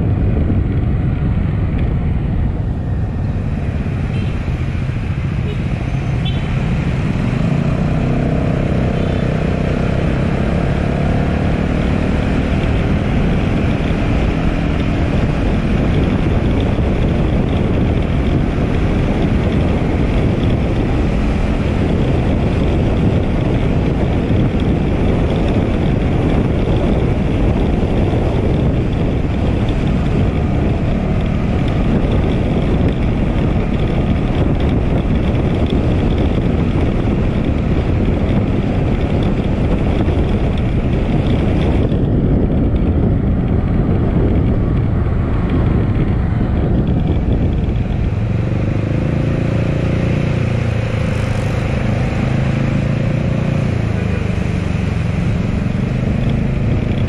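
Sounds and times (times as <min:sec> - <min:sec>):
scooter engine and road noise: 0:00.0 - 0:57.0.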